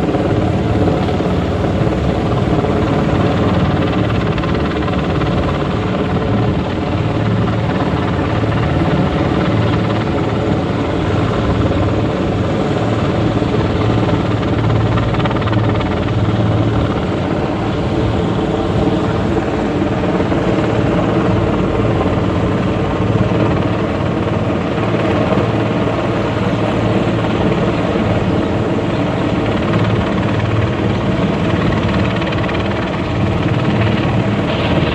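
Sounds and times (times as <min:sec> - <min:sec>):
helicopter engine and rotor drone: 0:00.0 - 0:34.9.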